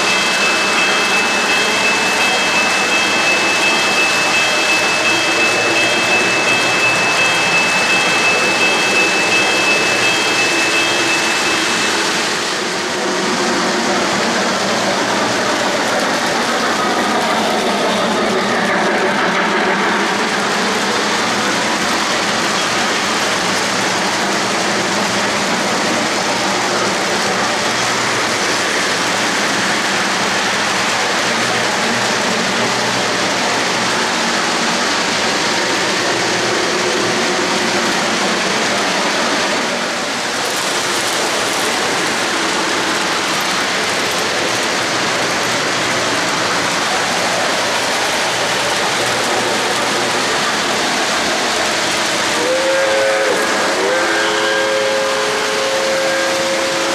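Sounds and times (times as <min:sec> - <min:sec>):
model train wheels on rails: 0:00.0 - 0:56.9.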